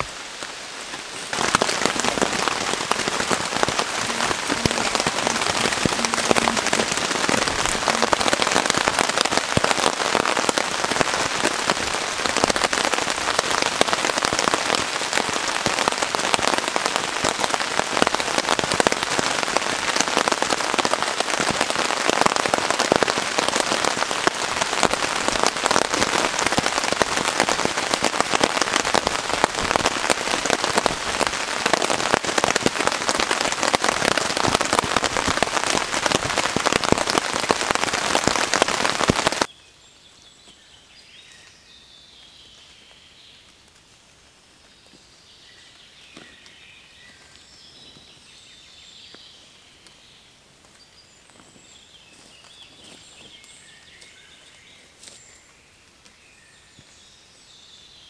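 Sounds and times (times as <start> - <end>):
rain falling on a tarp: 0.0 - 58.0.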